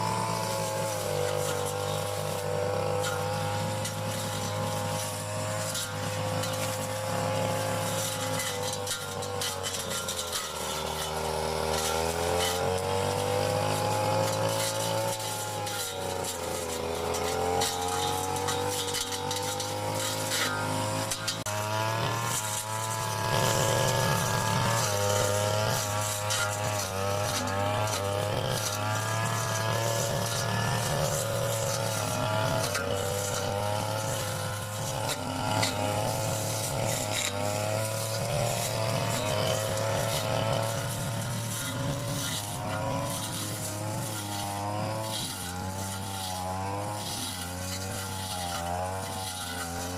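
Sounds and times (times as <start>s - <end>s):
brush cutter engine running: 0.0s - 49.9s.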